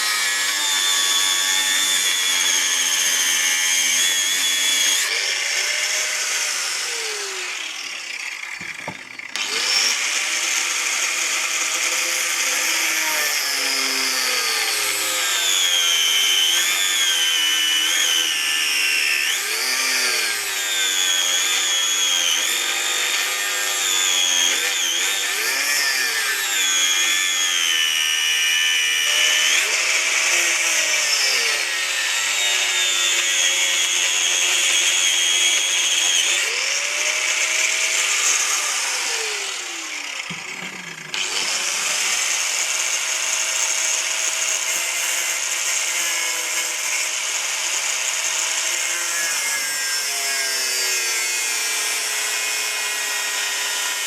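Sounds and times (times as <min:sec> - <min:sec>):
angle grinder on steel: 0:00.0 - 0:54.0.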